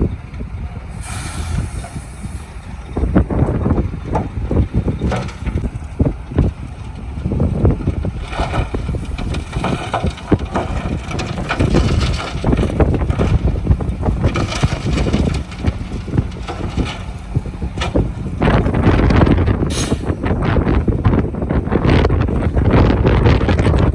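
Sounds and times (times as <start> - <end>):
construction machinery rumble: 0.0 - 23.9
wind buffeting microphone: 0.0 - 23.9.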